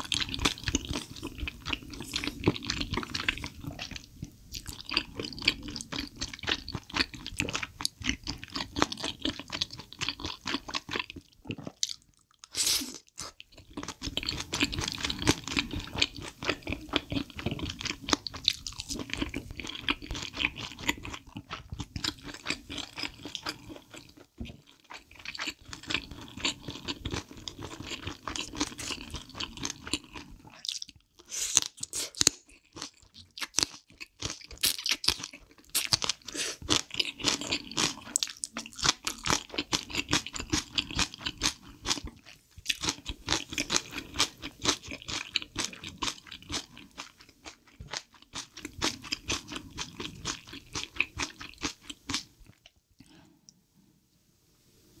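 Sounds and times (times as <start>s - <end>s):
wet chewing and crunching: 0.0s - 53.2s.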